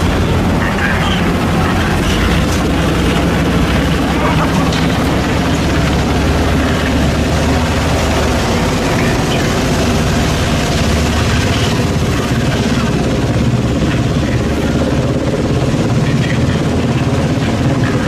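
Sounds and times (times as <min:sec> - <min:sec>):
heavy engines rumbling: 0:00.0 - 0:18.0.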